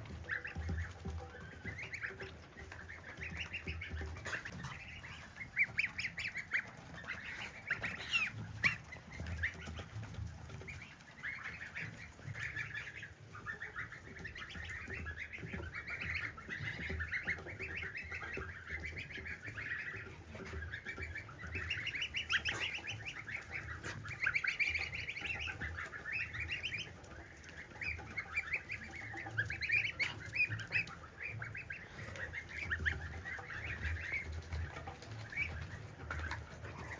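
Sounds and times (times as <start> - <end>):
geese: 0.0 - 36.9
goslings peeping: 0.0 - 36.9.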